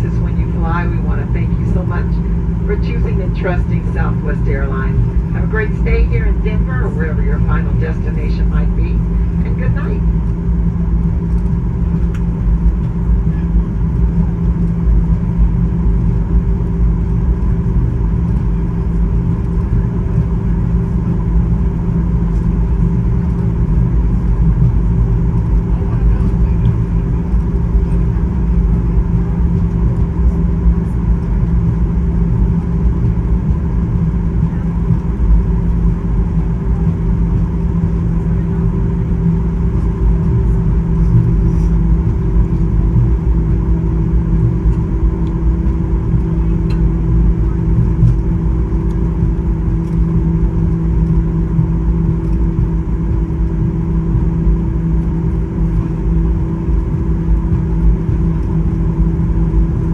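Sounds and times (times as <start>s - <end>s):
engines idling low rumble: 0.0s - 59.9s
steady humming tones: 0.0s - 59.9s.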